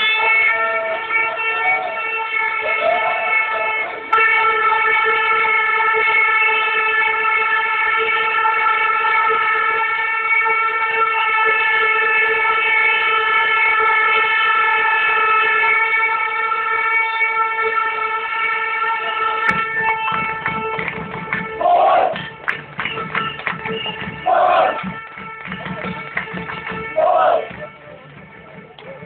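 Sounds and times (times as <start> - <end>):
air horn long note: 0.0 - 22.4, 23.0 - 29.0
crowd noise: 0.0 - 29.0.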